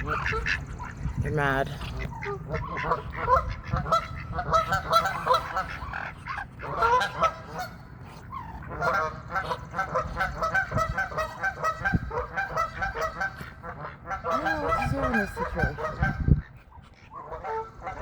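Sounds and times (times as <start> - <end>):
waterfowl calling: 0.0 - 18.0.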